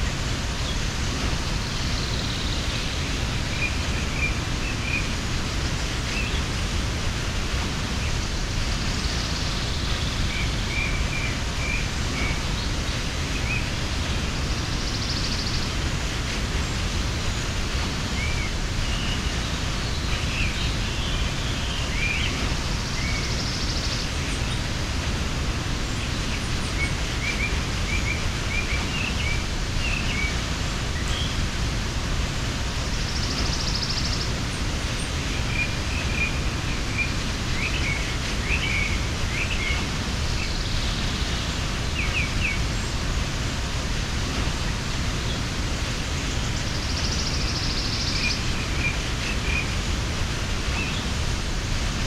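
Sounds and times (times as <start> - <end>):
waterfall rushing: 0.0 - 52.0
small birds chirping: 0.2 - 52.0.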